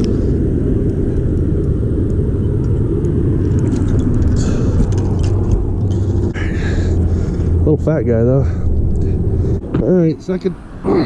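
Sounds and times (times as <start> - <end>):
low rumble: 0.0 - 10.9.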